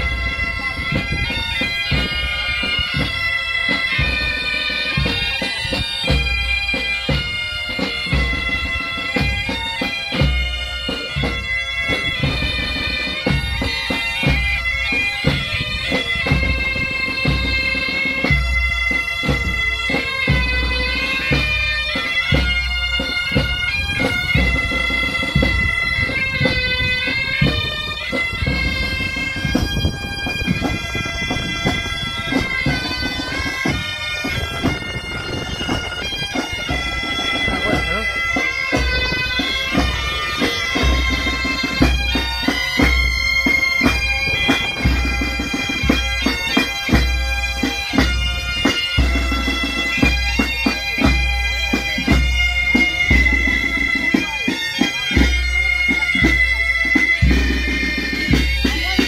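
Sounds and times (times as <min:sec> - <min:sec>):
bagpipes playing a tune: 0:00.0 - 0:59.0.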